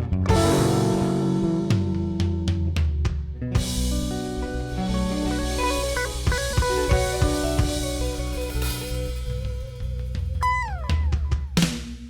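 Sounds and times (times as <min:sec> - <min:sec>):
electric guitar notes: 0:00.0 - 0:02.7, 0:03.4 - 0:11.6
drum kit: 0:00.0 - 0:12.0
loud drum hit: 0:00.3 - 0:12.0.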